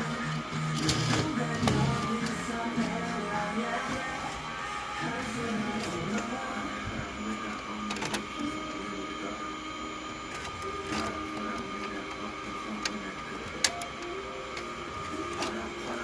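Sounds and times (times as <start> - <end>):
printer whirring: 0.0 - 16.0.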